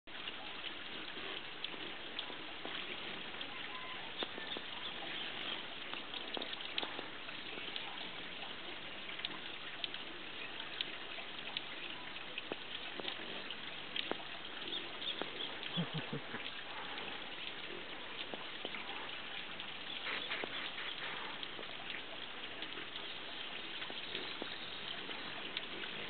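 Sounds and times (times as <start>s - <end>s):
steady outdoor hiss: 0.1s - 26.0s.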